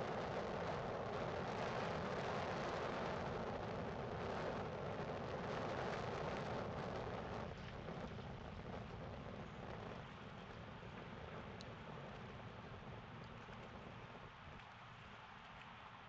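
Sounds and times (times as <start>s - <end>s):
wind on microphone: 0.0s - 14.4s.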